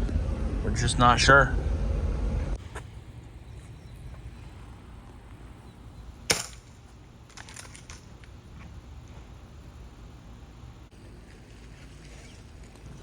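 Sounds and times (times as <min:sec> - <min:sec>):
low steady background hum: 0:00.0 - 0:13.0.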